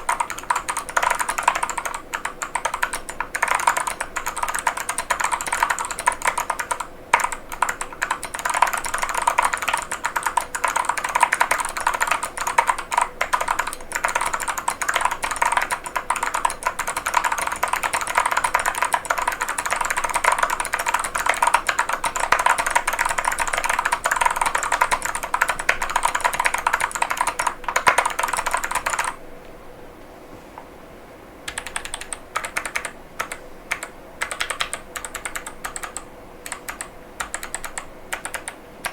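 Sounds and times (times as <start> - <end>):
fast mechanical keyboard typing: 0.0 - 29.2, 31.5 - 38.9.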